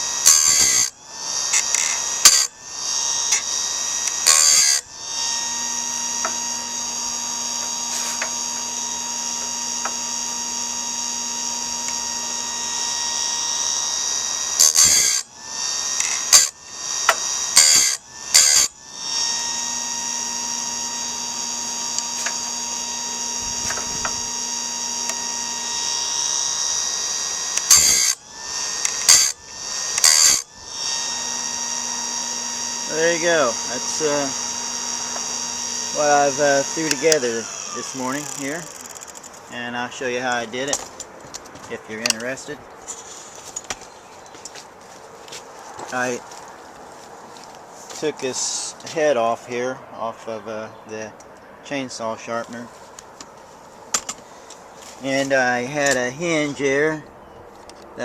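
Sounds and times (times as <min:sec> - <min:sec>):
grinding bursts on metal: 0:00.0 - 0:44.6, 0:45.3 - 0:46.4, 0:47.3 - 0:53.2, 0:53.8 - 0:57.1
grinder whine: 0:00.0 - 0:58.0.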